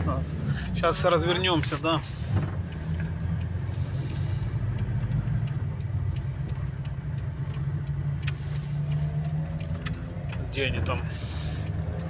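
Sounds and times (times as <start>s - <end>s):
car engine and road noise: 0.0s - 12.0s
turn signal relay ticking: 0.0s - 12.0s.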